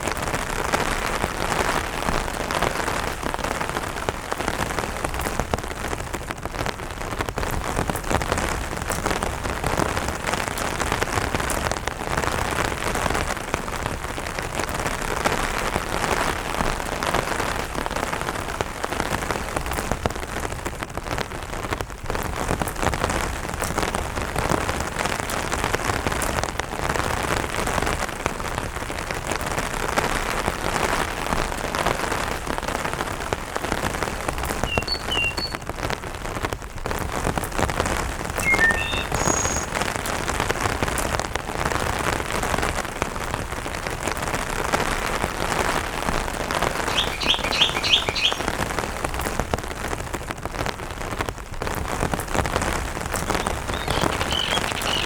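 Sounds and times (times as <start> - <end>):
light rain on an umbrella: 0.0 - 55.0.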